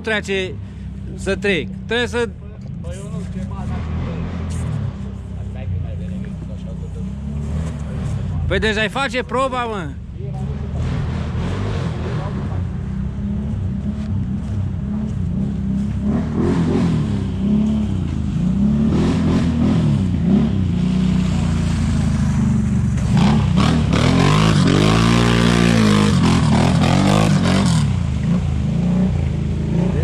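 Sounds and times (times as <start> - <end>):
atv engines running: 0.0 - 30.0
engine revving: 1.2 - 30.0.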